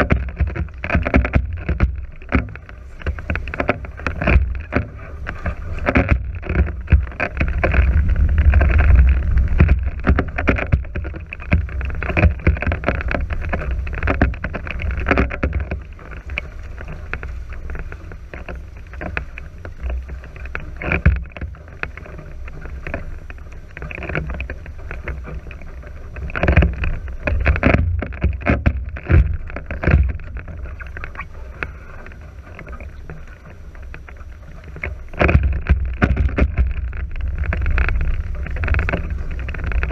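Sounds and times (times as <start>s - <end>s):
wind buffeting microphone: 0.0s - 18.8s, 25.6s - 39.9s
water rushing past hulls: 0.0s - 39.9s.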